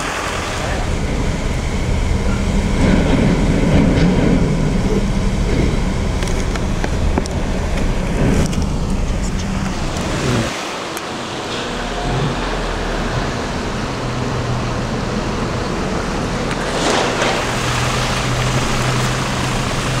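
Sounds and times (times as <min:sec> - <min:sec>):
low engine hum: 0:00.0 - 0:20.0
road and wind noise: 0:00.0 - 0:20.0.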